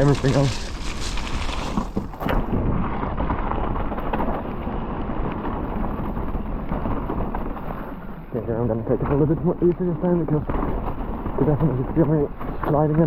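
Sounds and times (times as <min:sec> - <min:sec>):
bike tyres rolling: 0:00.0 - 0:13.0.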